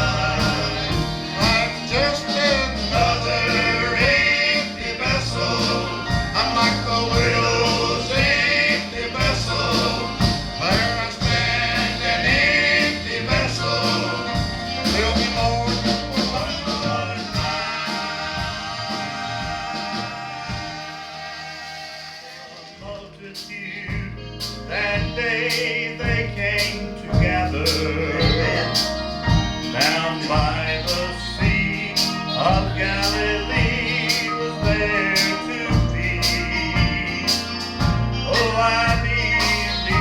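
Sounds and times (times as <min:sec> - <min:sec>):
gospel vocal quartet singing: 0:00.0 - 0:40.0
instrumental accompaniment with bass: 0:00.0 - 0:40.0.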